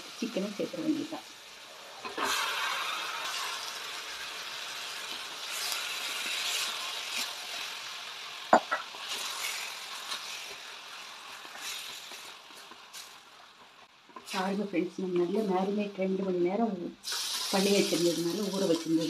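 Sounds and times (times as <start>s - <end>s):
chicken sizzling in a pot: 0.0s - 16.0s, 17.0s - 19.0s.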